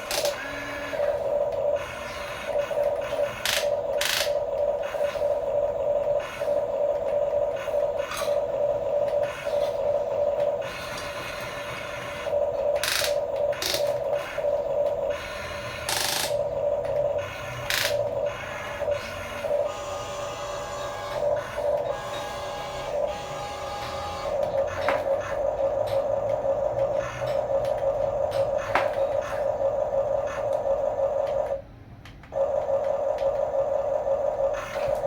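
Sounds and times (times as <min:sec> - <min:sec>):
small electric motors whining: 0:00.0 - 0:31.6.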